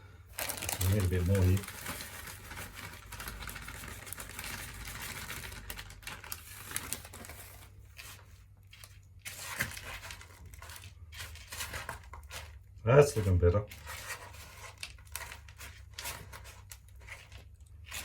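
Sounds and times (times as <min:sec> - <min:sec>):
plastic snack packet rustling: 0:00.1 - 0:18.0.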